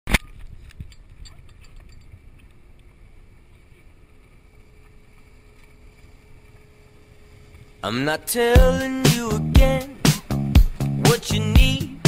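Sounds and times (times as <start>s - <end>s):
wind: 0.1s - 12.0s
faint steady hum: 0.3s - 12.0s.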